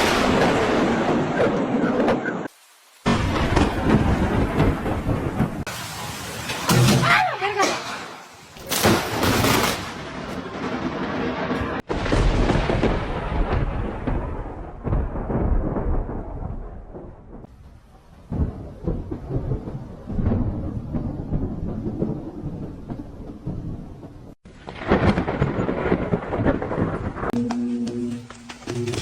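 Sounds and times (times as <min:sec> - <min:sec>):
thunder rumbling: 0:00.0 - 0:29.0.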